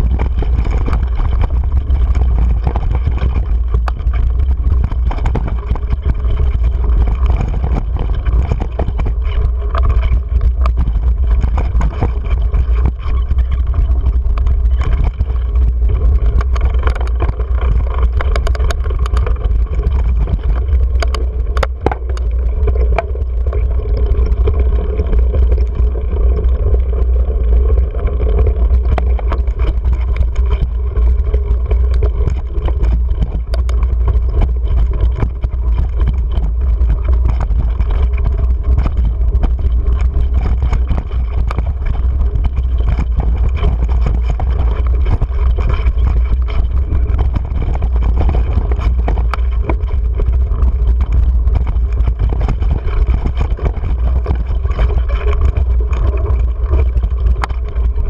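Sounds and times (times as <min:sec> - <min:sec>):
bike clicks and rattles on rough trail: 0:00.0 - 0:58.0
wind buffeting microphone: 0:00.0 - 0:58.0.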